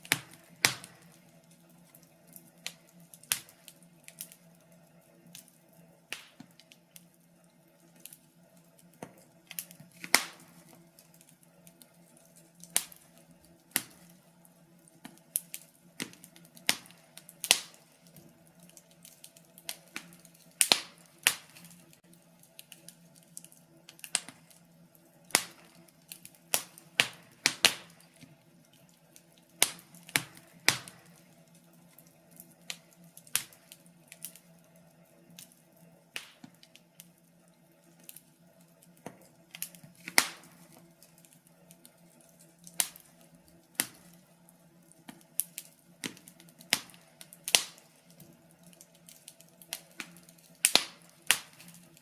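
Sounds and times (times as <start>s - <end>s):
fire crackling in a fireplace: 0.0s - 52.0s.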